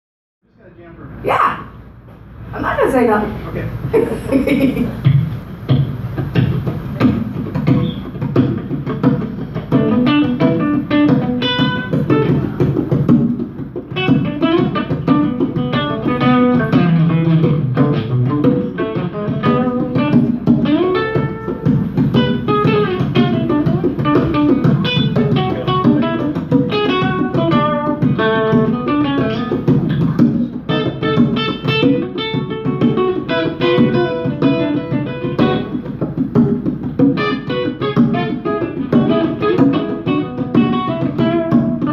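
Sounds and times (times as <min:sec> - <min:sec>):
congas played by hand: 0:03.8 - 0:41.9
acoustic guitar picking: 0:04.8 - 0:41.9.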